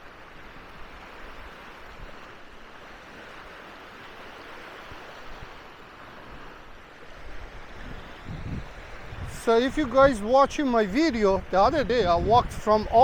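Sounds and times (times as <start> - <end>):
waves washing onto sand: 0.0 - 13.0.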